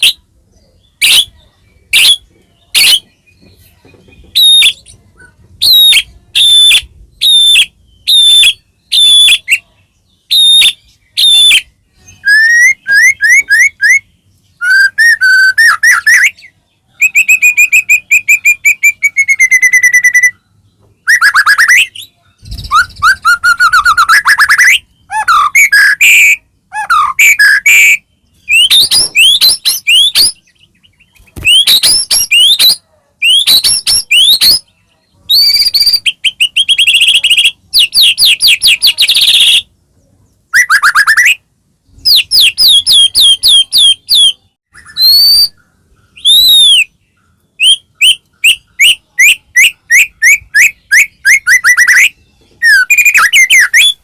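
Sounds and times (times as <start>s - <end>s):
songbird singing varied whistles: 0.0s - 34.7s, 35.3s - 39.7s, 40.5s - 47.0s, 47.6s - 54.0s.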